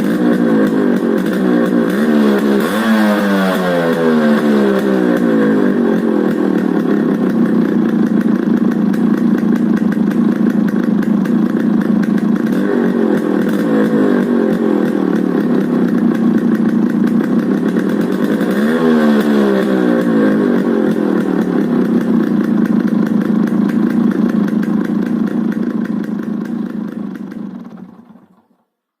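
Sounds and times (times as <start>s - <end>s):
two-stroke motorcycle engine revving: 0.0s - 28.6s.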